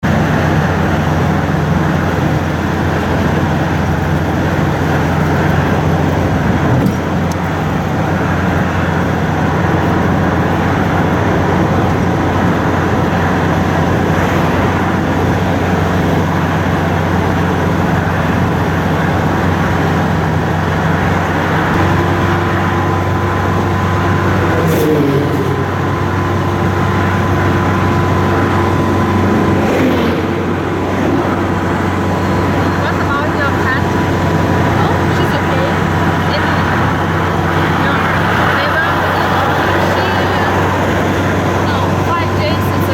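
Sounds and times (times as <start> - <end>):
car engine running: 0.0 - 42.9
road noise: 0.0 - 42.9.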